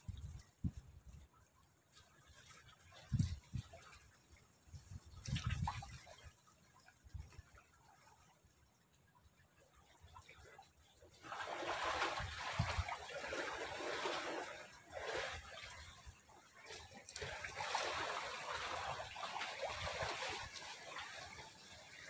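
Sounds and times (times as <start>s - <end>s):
water splashing and trickling: 0.0s - 22.0s.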